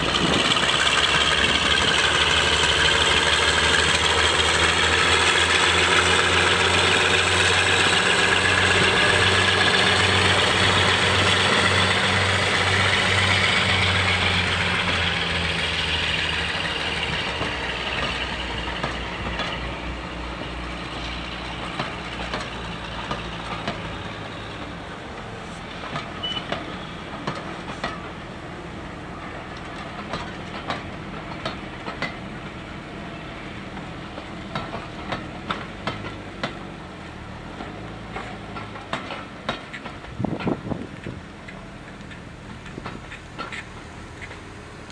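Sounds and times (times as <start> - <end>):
diesel locomotive engines running: 0.0 - 44.9
train wheels clicking over rail joints: 0.0 - 44.9.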